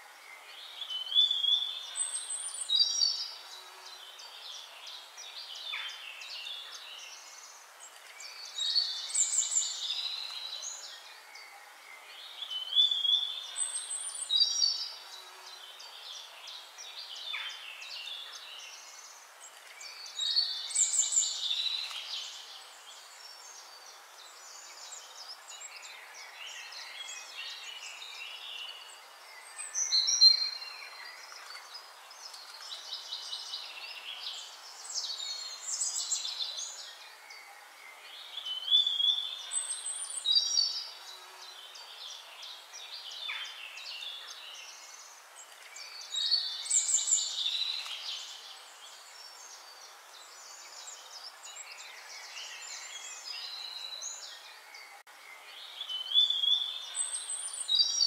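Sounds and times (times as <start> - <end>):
steady hiss: 0.0 - 58.0
birds chirping and singing: 0.2 - 58.0.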